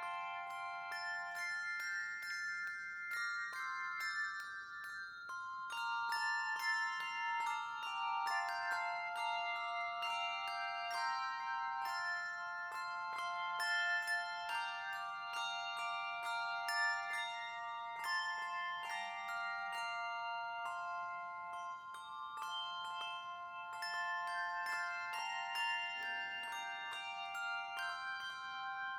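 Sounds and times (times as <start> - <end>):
bell-like tuned percussion melody: 0.0 - 28.9.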